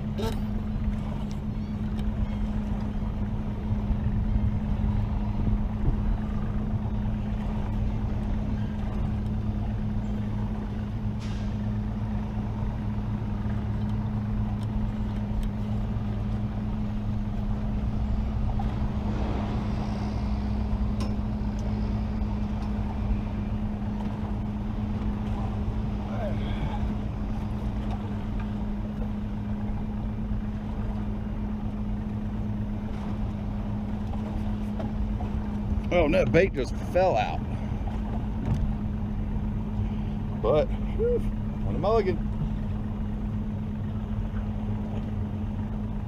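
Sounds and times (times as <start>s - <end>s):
outboard motor running: 0.0s - 46.0s
water noise: 0.0s - 46.0s.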